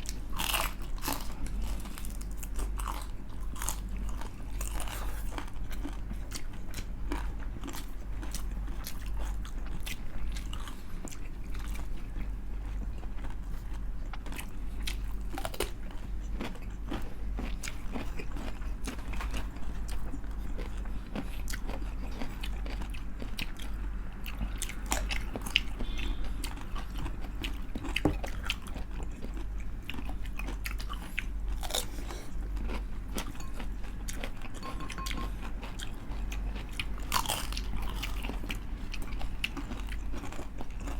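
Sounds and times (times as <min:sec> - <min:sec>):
crunching and chewing crispy food: 0:00.0 - 0:40.9
steady low hum: 0:00.0 - 0:40.9.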